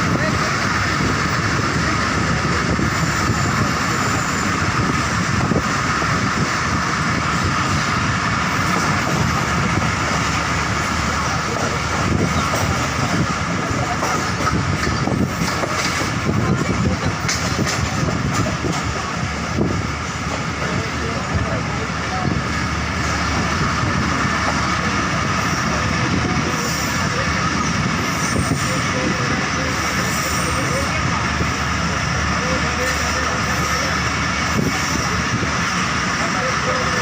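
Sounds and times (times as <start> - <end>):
sharp clicks of train wheels: 0.0 - 37.0
train wheels rumbling and rattling: 0.0 - 37.0.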